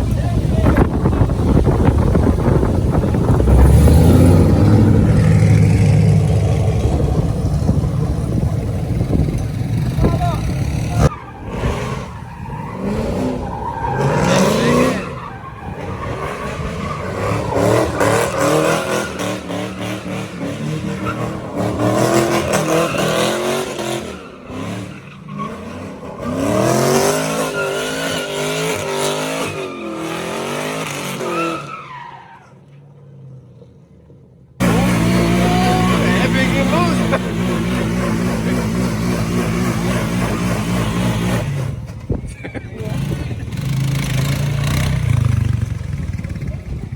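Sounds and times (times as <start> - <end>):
tires squealing: 0.0 - 33.3, 34.6 - 46.9
vehicle engine revving hard: 1.5 - 31.6, 34.6 - 42.2, 42.8 - 46.6.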